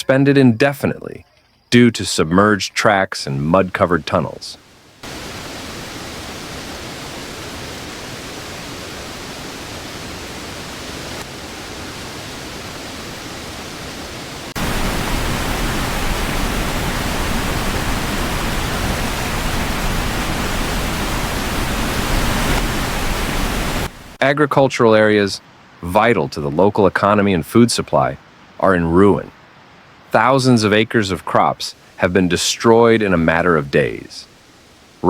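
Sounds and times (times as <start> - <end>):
water rushing: 3.4 - 35.0.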